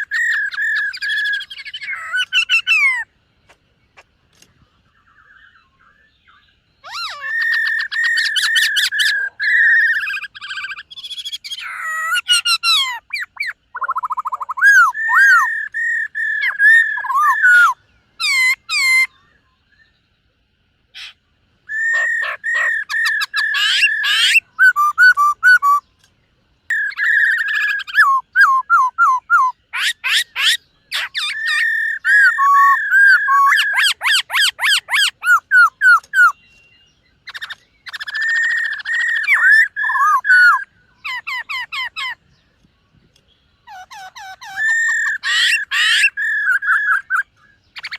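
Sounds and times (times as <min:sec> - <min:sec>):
bird singing whistled phrases: 0:00.0 - 0:03.1, 0:05.1 - 0:20.0, 0:21.7 - 0:25.9, 0:26.7 - 0:42.2, 0:43.6 - 0:47.9.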